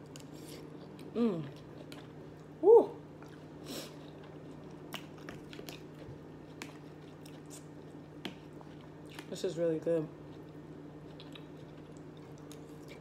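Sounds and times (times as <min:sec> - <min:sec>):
chewing and mouth sounds: 0:00.0 - 0:09.5, 0:10.2 - 0:13.0
steady low hum: 0:00.0 - 0:13.0.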